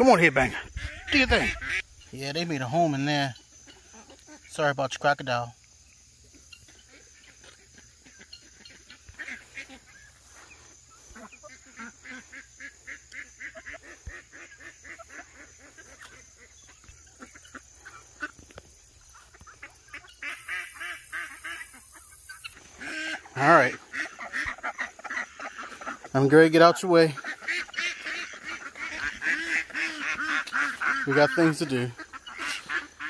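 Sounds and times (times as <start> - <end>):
ducks quacking: 0.0 - 5.5, 6.2 - 33.0.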